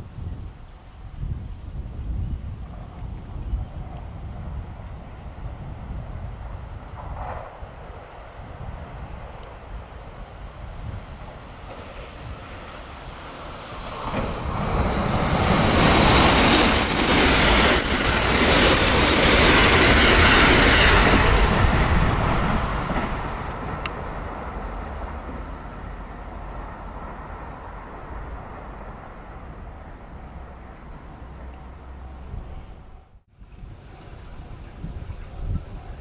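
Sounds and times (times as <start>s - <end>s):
train passing at speed: 2.6s - 36.0s.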